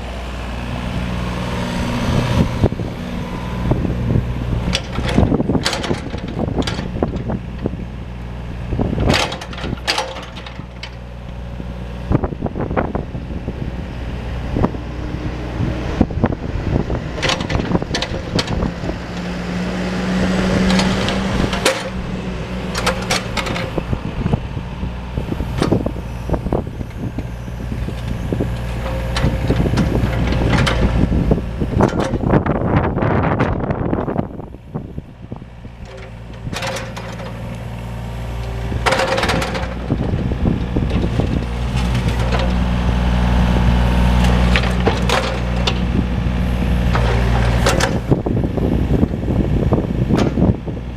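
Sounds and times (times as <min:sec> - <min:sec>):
excavator diesel engine running: 0:00.0 - 0:50.9
clanks and knocks of excavator gear: 0:02.3 - 0:07.9, 0:08.6 - 0:13.1, 0:16.0 - 0:24.5, 0:25.1 - 0:34.4, 0:35.3 - 0:50.9.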